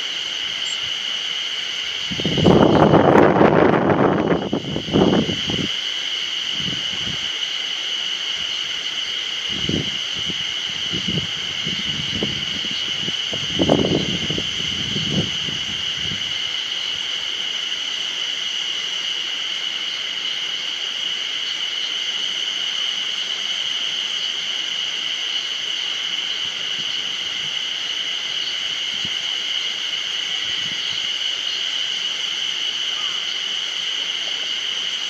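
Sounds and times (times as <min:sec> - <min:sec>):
cicadas singing: 0:00.0 - 0:35.0.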